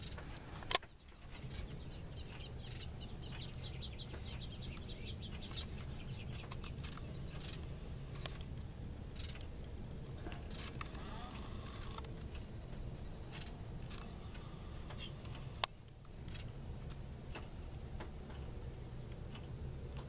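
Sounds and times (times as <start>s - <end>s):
songbirds chirping: 0.0s - 20.0s
steady low hum: 0.0s - 20.0s.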